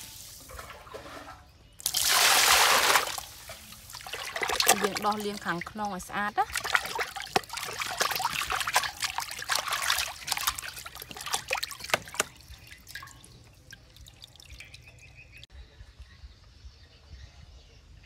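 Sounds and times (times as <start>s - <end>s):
water splashing in steel basin: 0.0s - 15.1s.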